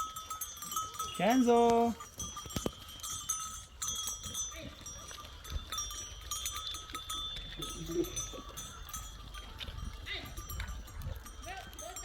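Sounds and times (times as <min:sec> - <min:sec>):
livestock bells ringing: 0:00.0 - 0:12.0.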